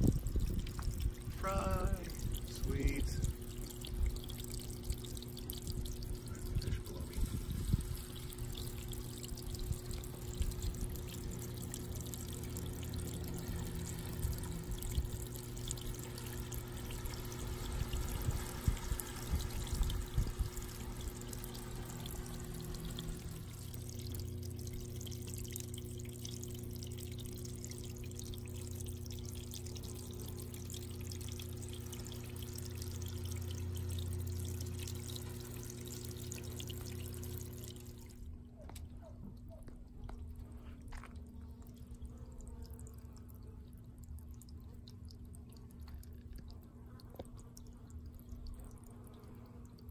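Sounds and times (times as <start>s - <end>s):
low hum: 0.0s - 49.9s
water pouring and trickling: 0.0s - 49.9s.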